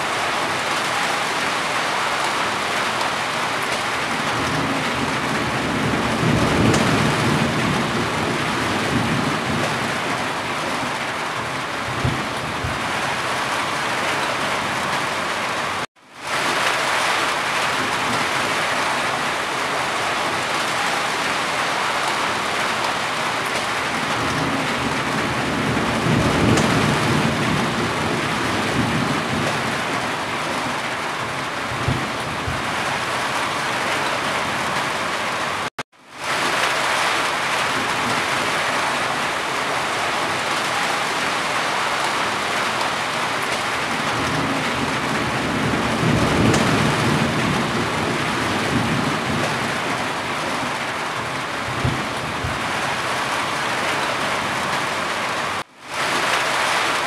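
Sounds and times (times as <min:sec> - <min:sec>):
rain drumming on a metal roof: 0:00.0 - 0:57.0.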